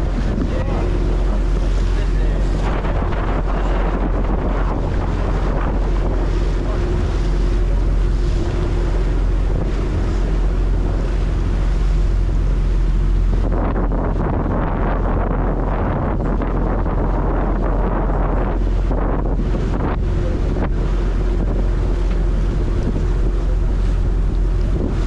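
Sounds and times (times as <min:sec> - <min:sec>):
boat engine drone: 0:00.0 - 0:25.0
hiss of churning wake: 0:00.0 - 0:25.0
wind buffeting microphone: 0:00.0 - 0:25.0.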